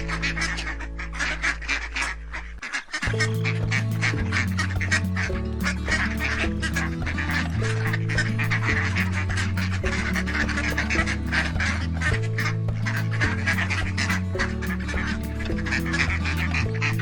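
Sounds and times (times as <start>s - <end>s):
background music with bass notes: 0.0s - 17.0s
waterfowl quacking and honking: 0.0s - 17.0s.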